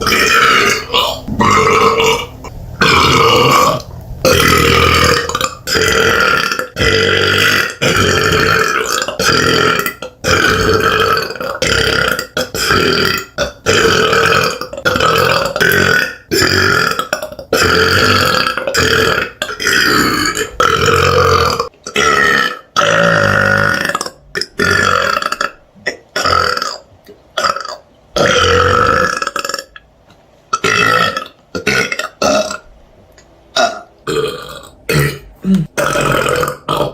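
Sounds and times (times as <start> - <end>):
woman burping loudly: 0.0 - 26.8, 33.6 - 36.9.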